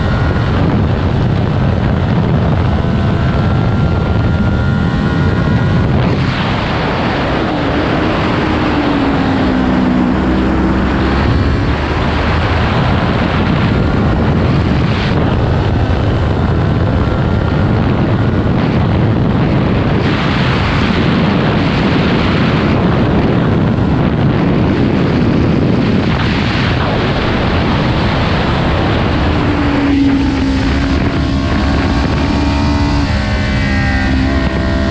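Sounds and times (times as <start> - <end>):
heavy wind rush on microphone: 0.0 - 34.9
motorcycle engine revving: 0.0 - 34.9.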